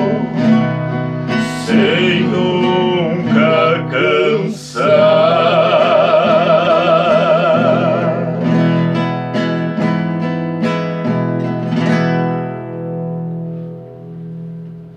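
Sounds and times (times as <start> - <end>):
acoustic guitar chords: 0.0 - 14.9.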